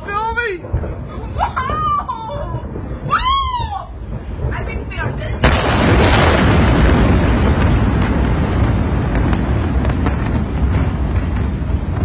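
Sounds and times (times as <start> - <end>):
cracks and pops of burning debris: 0.0 - 12.0
explosion rumble: 0.0 - 12.0.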